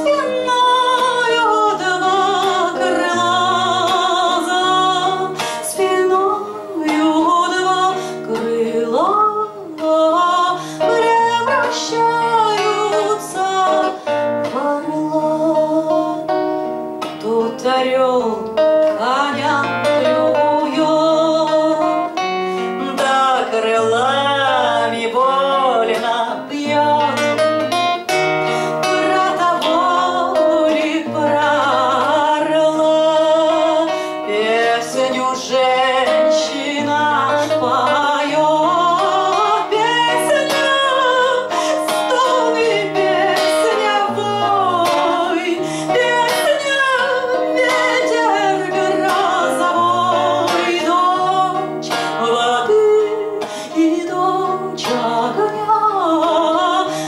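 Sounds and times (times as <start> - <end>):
acoustic guitar: 0.0 - 57.0
woman singing: 0.0 - 57.0.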